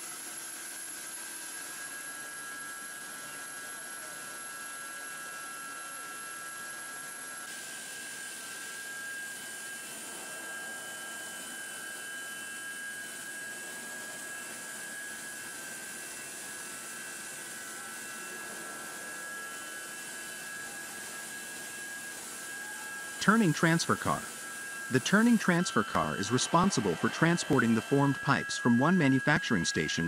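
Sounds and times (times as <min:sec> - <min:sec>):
steady high whine: 0:00.8 - 0:30.0.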